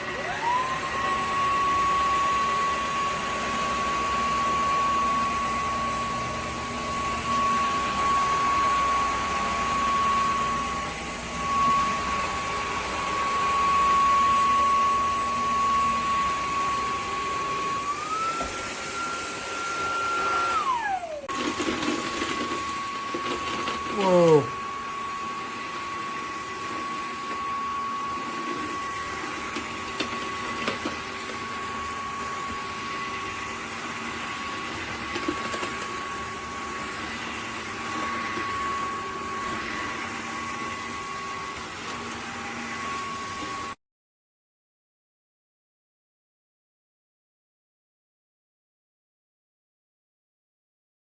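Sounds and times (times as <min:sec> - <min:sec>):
vacuum cleaner motor whine: 0:00.0 - 0:43.8.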